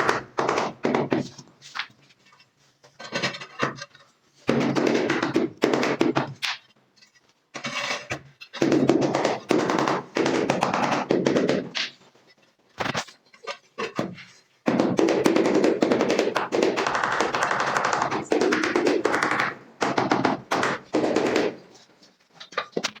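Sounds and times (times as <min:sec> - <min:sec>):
rapid tapping on floor tiles: 0:00.0 - 0:02.0, 0:03.0 - 0:06.8, 0:07.6 - 0:12.2, 0:12.8 - 0:23.0.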